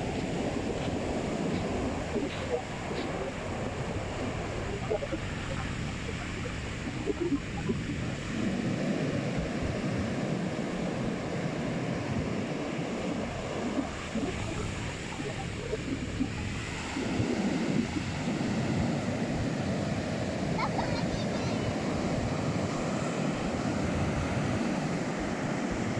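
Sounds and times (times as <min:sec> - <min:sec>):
sea surf washing ashore: 0:00.0 - 0:25.9
wind on microphone: 0:00.0 - 0:25.9.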